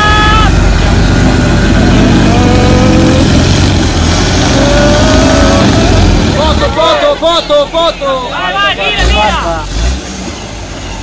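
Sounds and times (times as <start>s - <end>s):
off-road engine revving hard: 0.0s - 7.0s, 8.8s - 11.0s.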